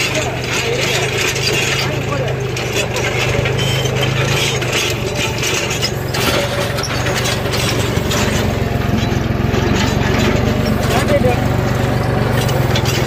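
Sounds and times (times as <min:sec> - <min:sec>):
plough frame rattling and clanking: 0:00.0 - 0:13.0
tractor diesel engine under load: 0:00.0 - 0:13.0.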